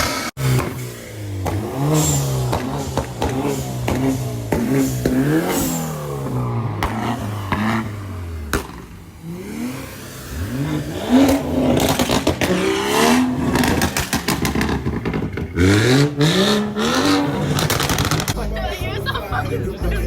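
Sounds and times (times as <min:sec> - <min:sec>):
car engine revving: 0:00.0 - 0:20.0
tires spinning: 0:00.0 - 0:20.0.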